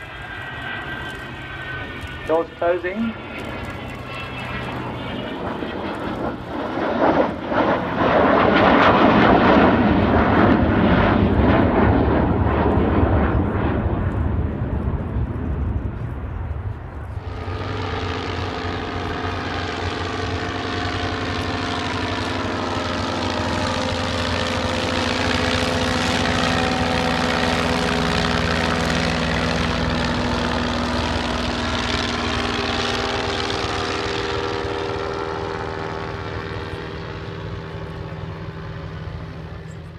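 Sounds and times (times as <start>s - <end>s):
jet bomber roaring past: 0.0s - 39.9s
piston engines droning: 0.0s - 39.9s.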